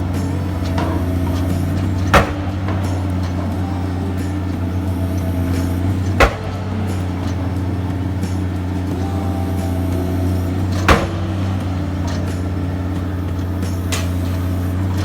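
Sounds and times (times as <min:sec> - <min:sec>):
diesel engine droning: 0:00.0 - 0:15.0
sharp knocks: 0:00.0 - 0:15.0.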